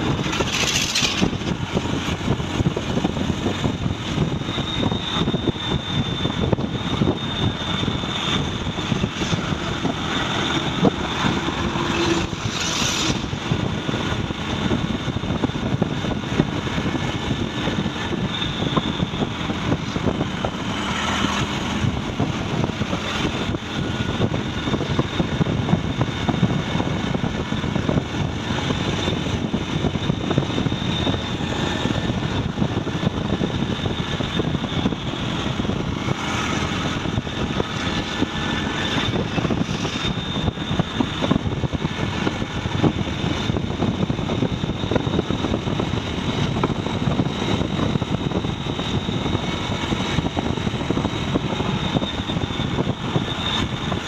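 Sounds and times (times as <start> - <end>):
road noise: 0.0 - 54.0
truck engine droning: 0.0 - 54.0.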